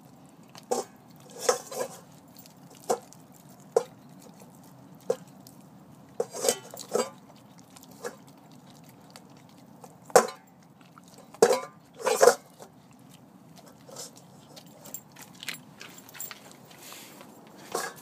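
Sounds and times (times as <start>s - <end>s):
dog chewing and crunching bone: 0.0s - 18.0s.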